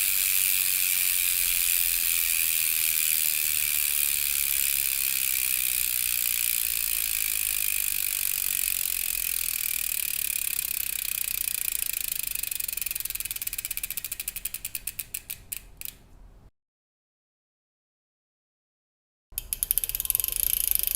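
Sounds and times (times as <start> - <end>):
bicycle hub freewheel ratchet: 0.0 - 16.0, 19.4 - 20.9.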